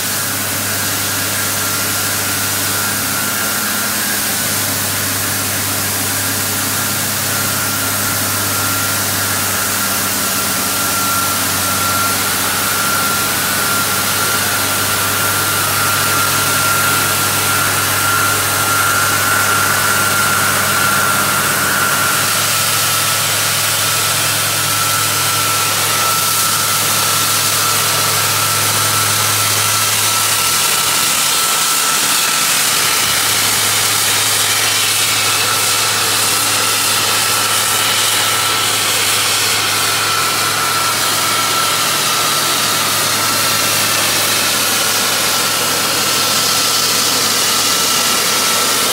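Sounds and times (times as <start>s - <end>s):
drill rig engine running: 0.0s - 48.9s
high whine: 0.0s - 48.9s.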